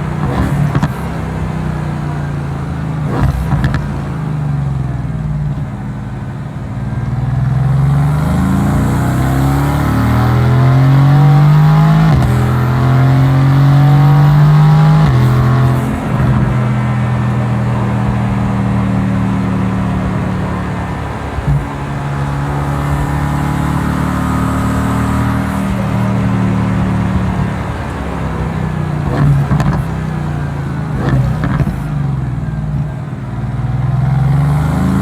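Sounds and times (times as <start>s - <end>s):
car engine accelerating and upshifting: 0.0s - 35.0s.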